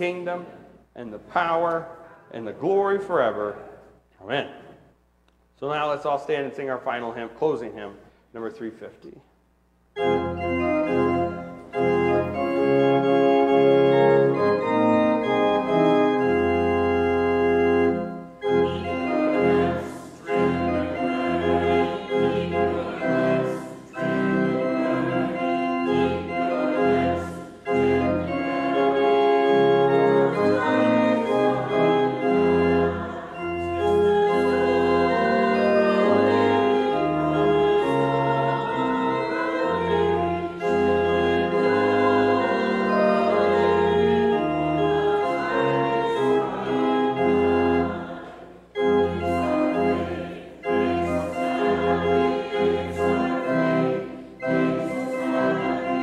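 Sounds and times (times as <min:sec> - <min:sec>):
church organ chords: 0:00.0 - 0:09.2, 0:09.9 - 0:56.0.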